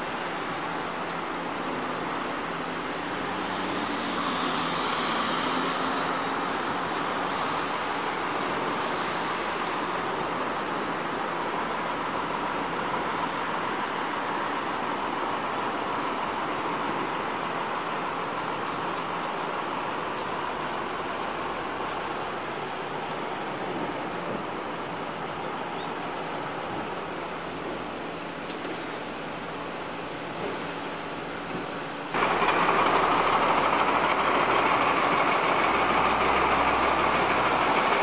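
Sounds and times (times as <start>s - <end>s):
road traffic rushing: 0.0s - 28.4s, 29.0s - 38.0s.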